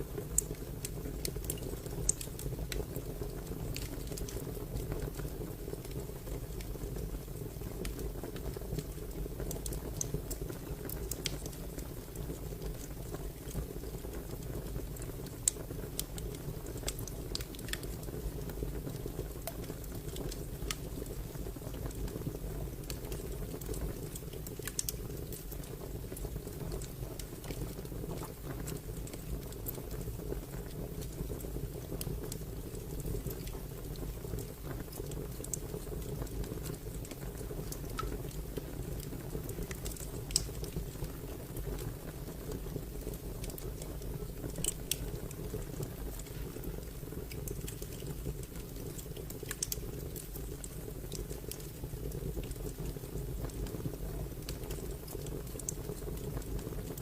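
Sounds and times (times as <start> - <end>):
fire crackling: 0.0 - 57.0
pops and snaps of fire: 0.2 - 6.8, 7.8 - 11.9, 14.9 - 21.1, 22.8 - 57.0.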